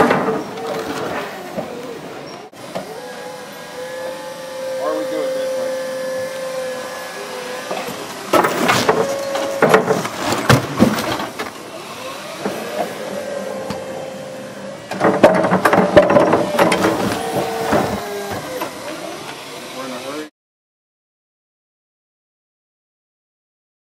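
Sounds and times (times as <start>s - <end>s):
forklift whine: 0.0s - 20.3s.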